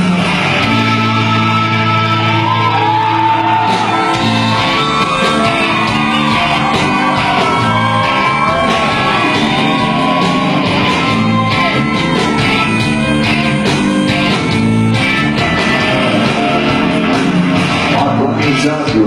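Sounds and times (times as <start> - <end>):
live rock band instrumental: 0.0 - 19.0.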